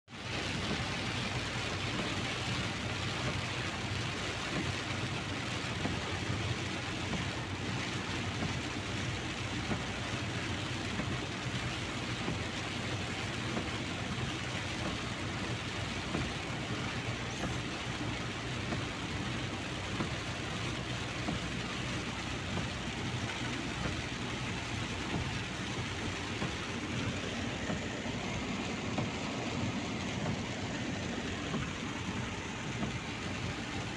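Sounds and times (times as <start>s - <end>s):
heavy rain on car roof: 0.1s - 33.9s
tyres and engine rumble: 0.1s - 33.9s.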